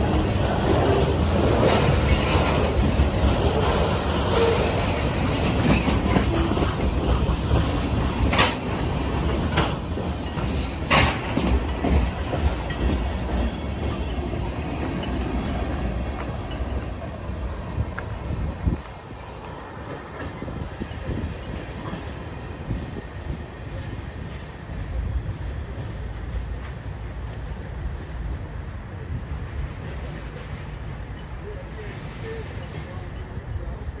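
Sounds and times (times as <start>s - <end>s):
freight train rumbling past: 0.0s - 34.0s.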